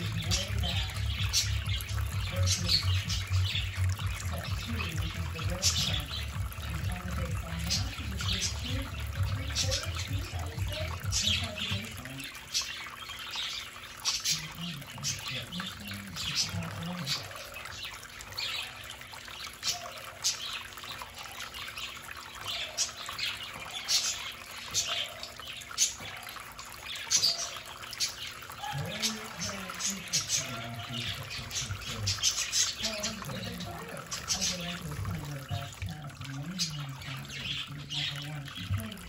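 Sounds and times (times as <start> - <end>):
budgies chirping: 0.0 - 39.0
fountain water trickling: 0.0 - 39.0.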